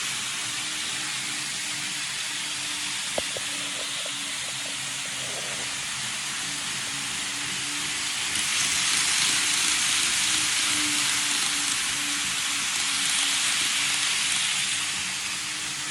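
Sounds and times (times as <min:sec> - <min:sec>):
model train wheels rolling on rails: 0:00.0 - 0:15.9.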